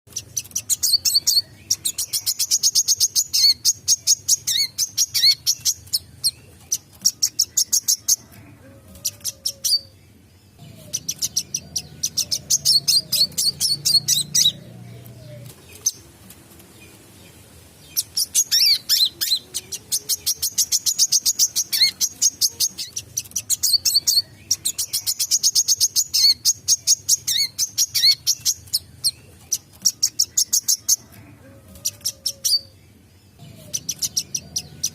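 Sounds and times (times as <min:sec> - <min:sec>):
bird high-pitched chattering song: 0:00.1 - 0:16.1, 0:17.8 - 0:31.1, 0:31.8 - 0:34.9.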